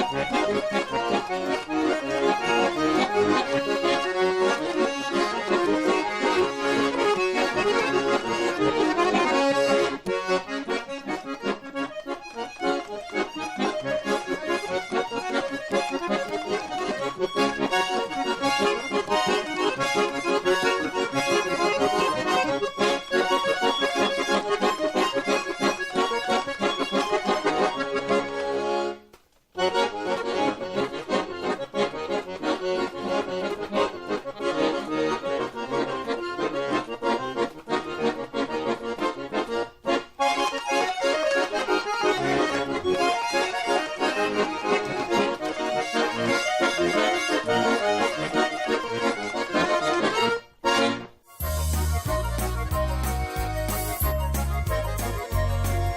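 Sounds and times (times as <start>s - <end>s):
button accordion folk melody: 0.0s - 55.9s.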